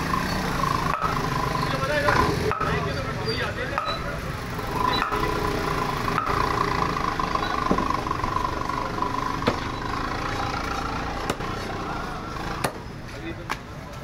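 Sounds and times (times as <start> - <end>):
engine-like hum: 0.0 - 14.0.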